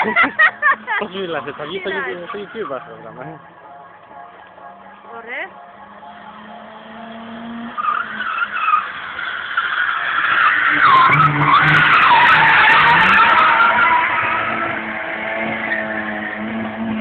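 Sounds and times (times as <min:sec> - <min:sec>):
car tyres squealing: 0:00.0 - 0:03.7, 0:04.3 - 0:17.0.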